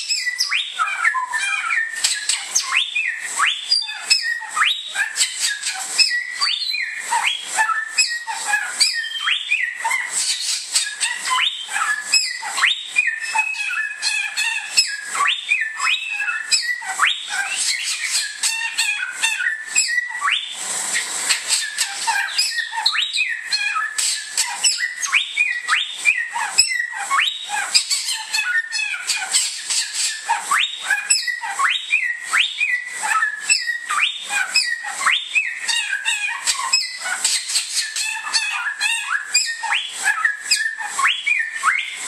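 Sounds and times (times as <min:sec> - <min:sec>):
bird whistling rapid notes: 0:00.0 - 0:14.1, 0:14.7 - 0:42.0.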